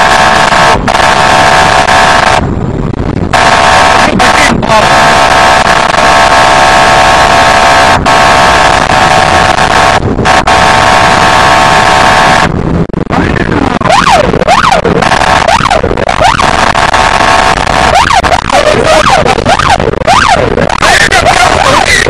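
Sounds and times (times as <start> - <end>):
wailing siren: 0.0 - 2.6, 3.3 - 22.0.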